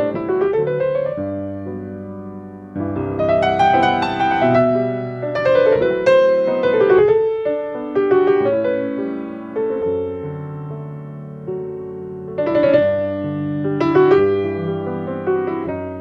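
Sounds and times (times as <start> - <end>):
solo piano tango: 0.0 - 16.0.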